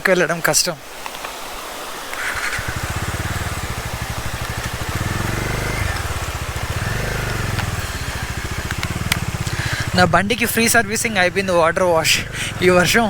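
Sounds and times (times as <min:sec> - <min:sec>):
rain hiss: 0:00.0 - 0:13.0
motorcycle engine running: 0:02.2 - 0:13.0.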